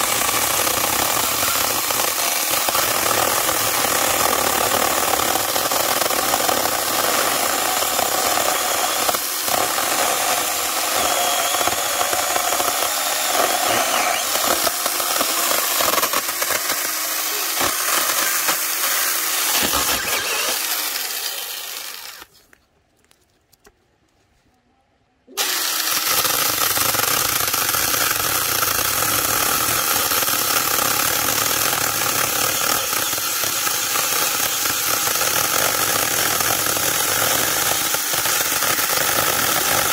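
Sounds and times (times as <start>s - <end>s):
electric chainsaw cutting log: 0.0s - 22.3s, 25.4s - 39.9s.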